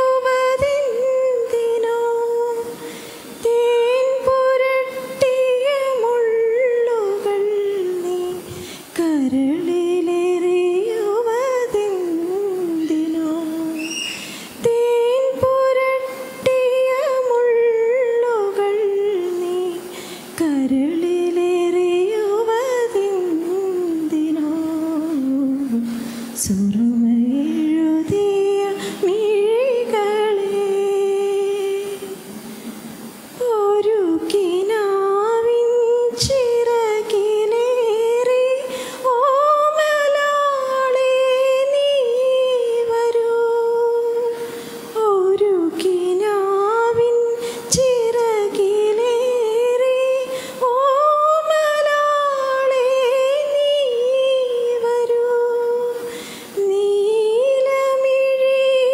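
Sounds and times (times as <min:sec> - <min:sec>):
woman singing unaccompanied: 0:00.0 - 0:58.9.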